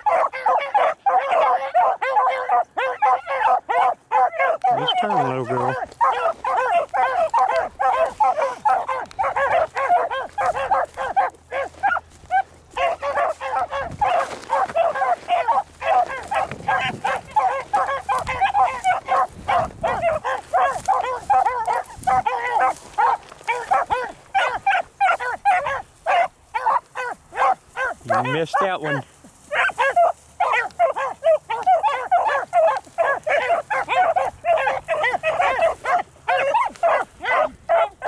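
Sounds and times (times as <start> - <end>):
dogs baying: 0.0 - 38.0.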